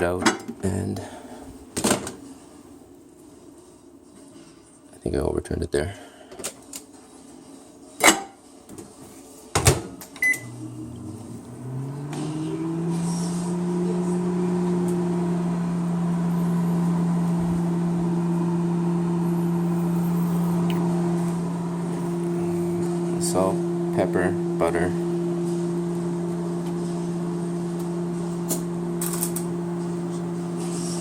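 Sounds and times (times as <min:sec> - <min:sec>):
microwave oven humming: 0:06.0 - 0:31.0.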